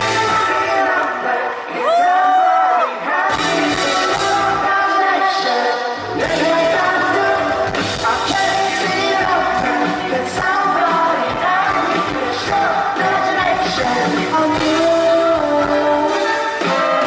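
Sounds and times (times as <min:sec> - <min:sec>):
live pop-rock band: 0:00.0 - 0:17.0
person singing: 0:00.0 - 0:17.0.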